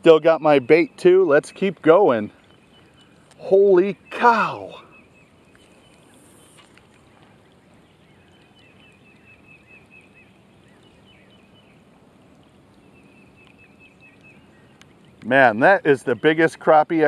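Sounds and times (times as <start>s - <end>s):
light rain on water: 0.0s - 17.0s.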